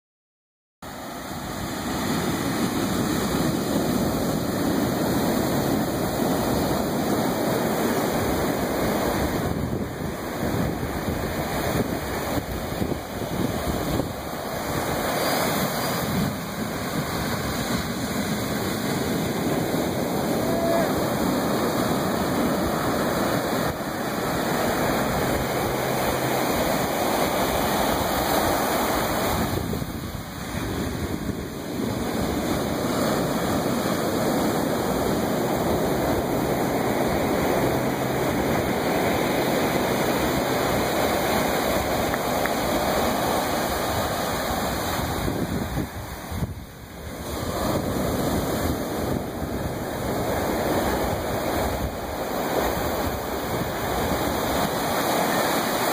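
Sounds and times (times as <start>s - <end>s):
ocean surf breaking on beach: 0.8s - 55.9s.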